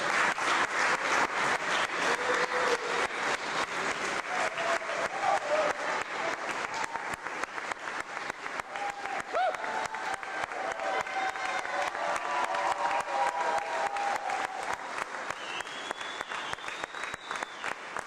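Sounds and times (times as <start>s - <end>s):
crowd clapping: 0.0s - 18.0s.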